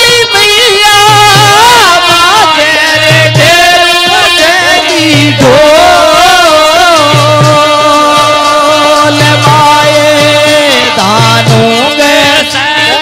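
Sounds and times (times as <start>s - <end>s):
man singing folk song: 0.0s - 13.0s.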